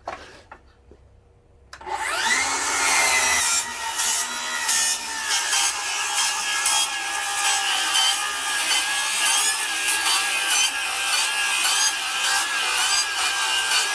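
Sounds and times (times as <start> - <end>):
circular saw cutting lumber: 1.8 - 13.9.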